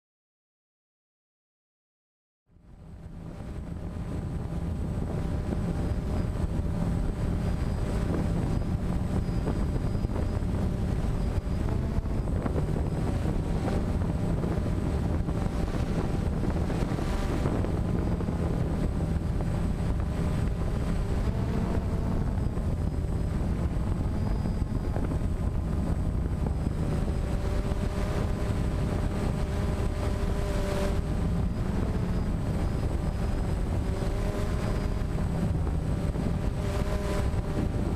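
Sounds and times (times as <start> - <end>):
drone propellers humming: 2.5 - 37.9
wind on microphone: 2.6 - 37.9.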